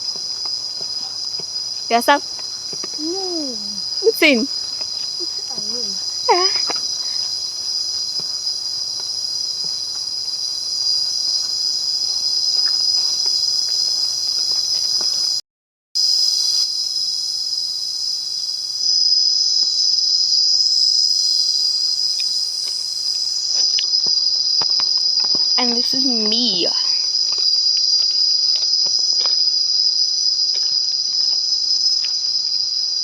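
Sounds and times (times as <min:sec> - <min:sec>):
insects shrilling: 0:00.0 - 0:15.4, 0:16.0 - 0:33.0.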